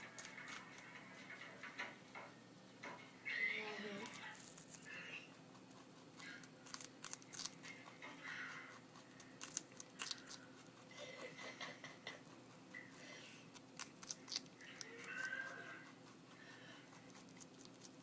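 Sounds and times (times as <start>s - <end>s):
rabbit chewing food: 0.0s - 18.0s.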